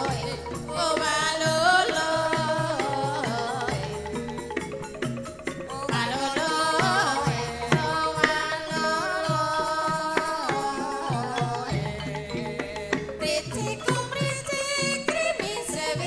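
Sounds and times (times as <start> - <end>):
bamboo xylophones struck: 0.0 - 16.0
hand-drum strokes: 0.0 - 16.0.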